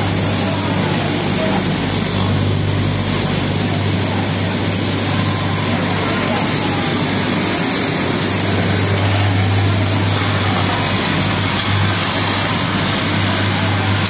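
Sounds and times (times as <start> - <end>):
cutting machine motor hum: 0.0 - 14.0.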